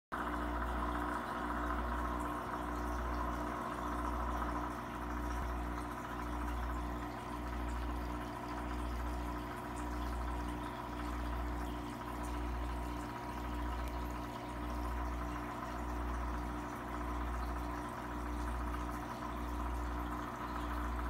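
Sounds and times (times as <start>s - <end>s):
aquarium pump humming: 0.1s - 21.0s.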